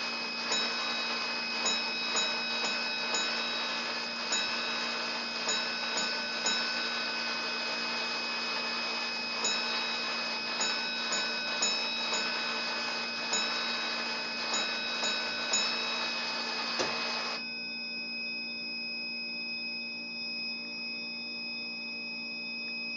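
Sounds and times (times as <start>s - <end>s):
alarm box running mechanism: 0.0s - 22.9s
fire alarm bell strokes: 0.0s - 22.9s.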